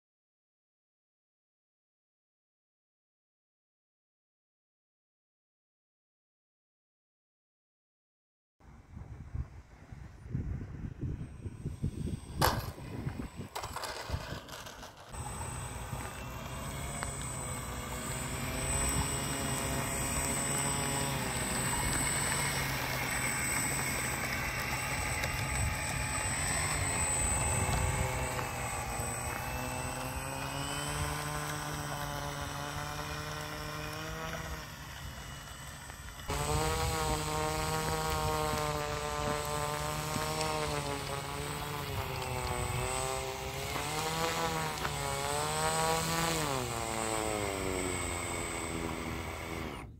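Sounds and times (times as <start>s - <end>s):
model airplane motor whine: 9.0s - 49.9s.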